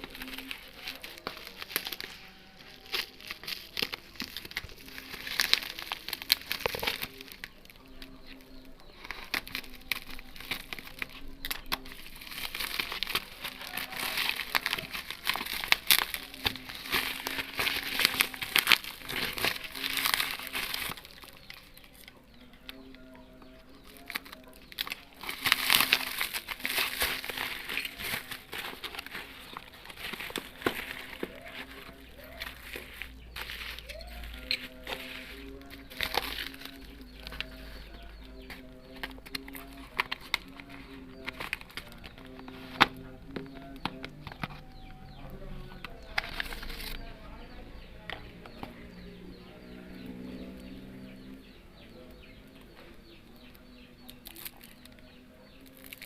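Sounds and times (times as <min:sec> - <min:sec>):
packaging crinkling: 0:00.0 - 0:56.0.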